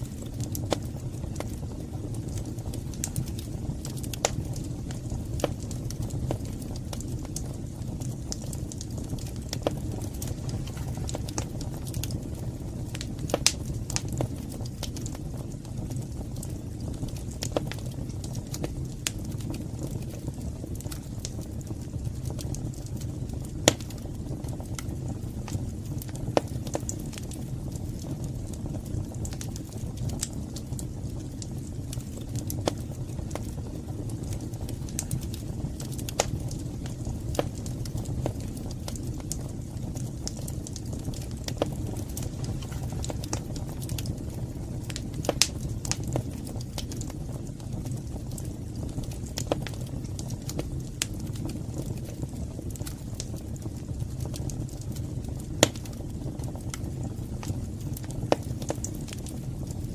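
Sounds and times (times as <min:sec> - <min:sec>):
fire crackling and snapping: 0:00.0 - 0:59.9
loud fire pops: 0:00.0 - 0:59.9
low rumble of flames: 0:00.0 - 0:59.9.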